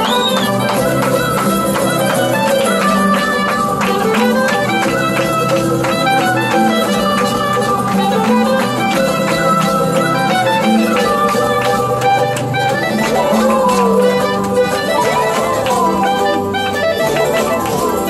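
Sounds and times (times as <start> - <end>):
clarinet playing folk melody: 0.0 - 18.0
strummed charango: 0.0 - 18.0.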